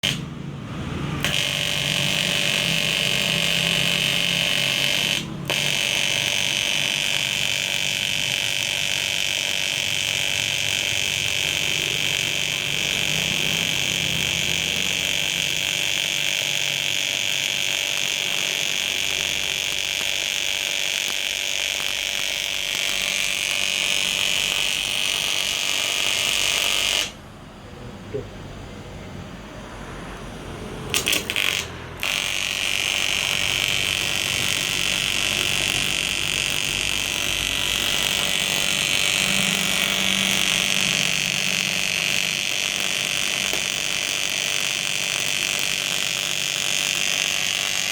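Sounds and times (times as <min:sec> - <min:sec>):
welding arc buzzing: 0:00.0 - 0:27.6, 0:29.2 - 0:47.9.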